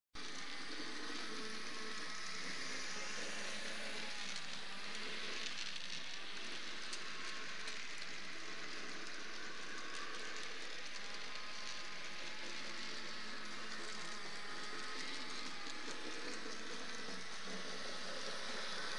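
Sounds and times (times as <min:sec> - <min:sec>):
model train whirring on rails: 0:00.2 - 0:18.9.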